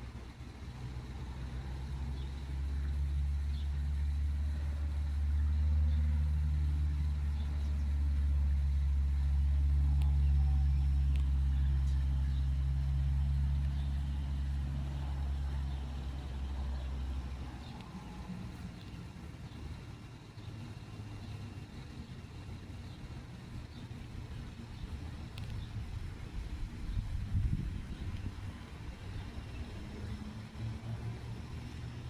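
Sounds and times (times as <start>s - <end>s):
vehicle engine rumble: 0.0s - 32.0s.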